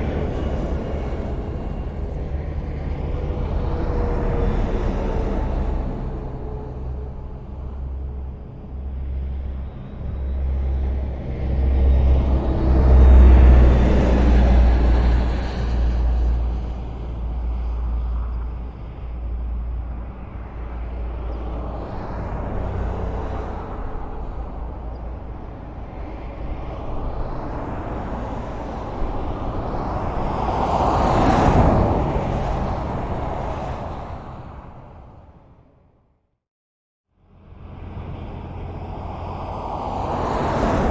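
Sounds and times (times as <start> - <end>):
highway traffic rumble: 0.0 - 36.2, 37.1 - 40.9.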